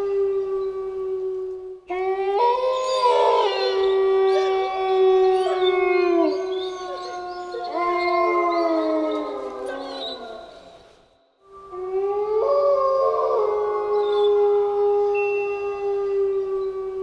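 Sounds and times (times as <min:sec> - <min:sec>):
wolves howling in chorus: 0:00.0 - 0:11.0, 0:11.6 - 0:17.0.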